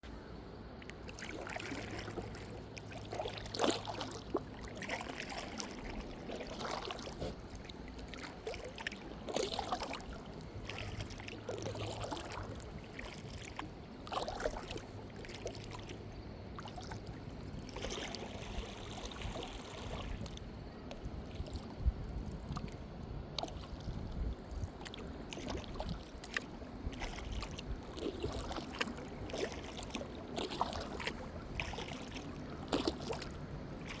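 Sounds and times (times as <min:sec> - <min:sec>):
kayak paddle strokes in water: 0:00.0 - 0:34.0.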